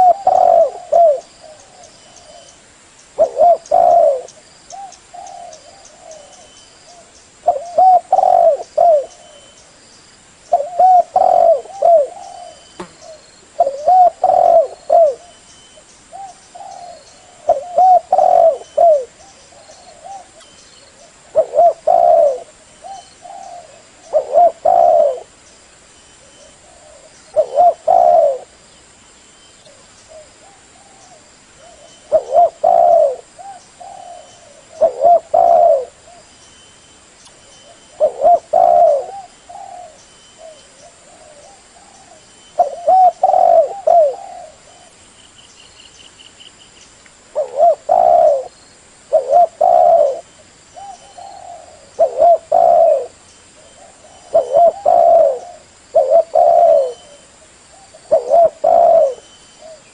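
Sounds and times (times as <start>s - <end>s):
dove cooing: 0.0s - 2.6s, 3.2s - 9.6s, 10.5s - 15.4s, 16.1s - 25.4s, 26.2s - 28.6s, 29.7s - 36.3s, 37.6s - 45.0s, 47.4s - 59.9s.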